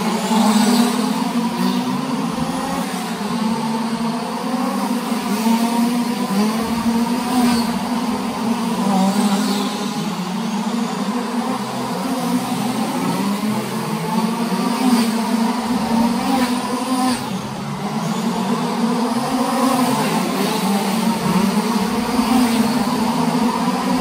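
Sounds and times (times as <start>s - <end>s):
small engines buzzing: 0.0s - 24.0s.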